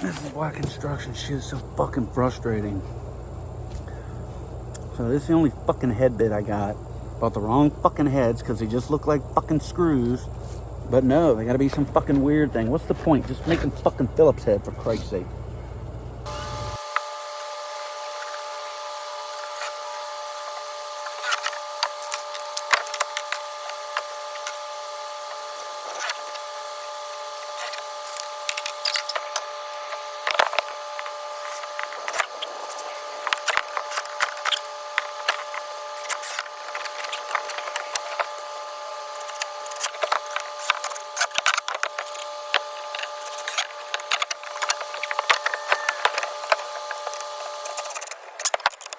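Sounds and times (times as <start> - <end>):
steady multi-tone whine: 0.0 - 48.9.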